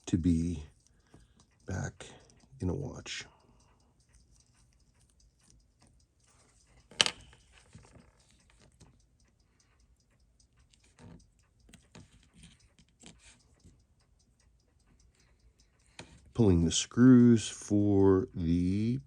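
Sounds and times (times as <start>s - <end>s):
fast faint clock ticking: 0.0s - 19.0s
small tools clicking on watch movement: 0.0s - 19.0s.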